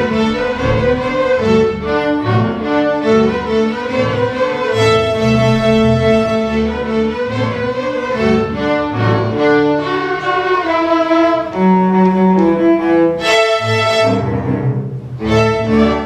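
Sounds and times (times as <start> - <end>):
string orchestra playing fiddle piece: 0.0 - 16.0.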